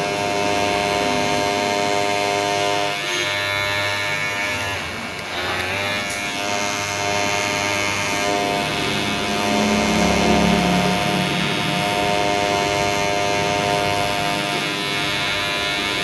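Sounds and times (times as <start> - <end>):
electric hair clipper buzzing: 0.0 - 16.0.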